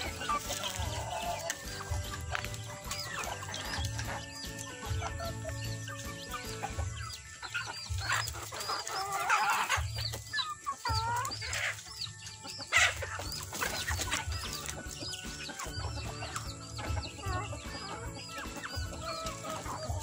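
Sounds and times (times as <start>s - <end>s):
chickens clucking and calling: 0.0s - 20.0s
chicks peeping: 0.0s - 20.0s.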